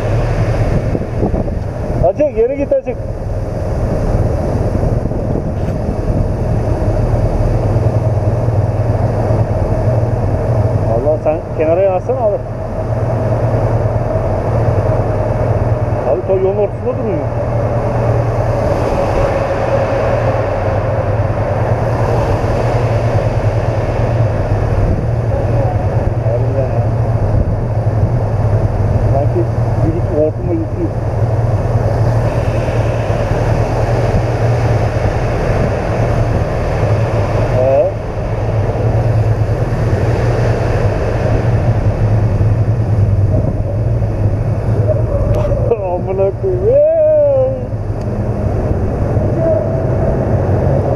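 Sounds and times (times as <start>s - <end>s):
constant rushing noise: 0.0s - 50.9s
wind and road noise: 0.0s - 50.9s.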